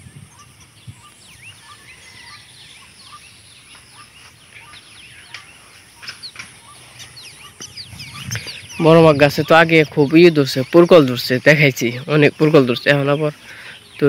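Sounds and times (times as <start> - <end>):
faint outdoor hiss: 0.0 - 14.0
small birds chirping: 0.0 - 14.0.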